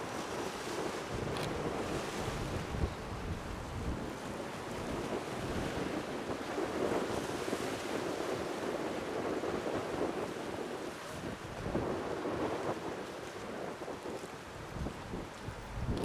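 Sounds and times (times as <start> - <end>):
sea noise: 0.0 - 16.0
wind gusting on microphone: 0.0 - 16.0.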